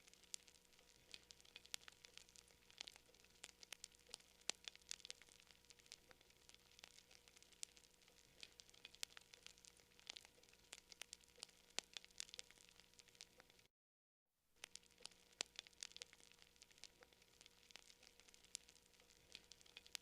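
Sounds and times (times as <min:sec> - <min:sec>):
campfire crackling: 0:00.0 - 0:13.7, 0:14.6 - 0:20.0.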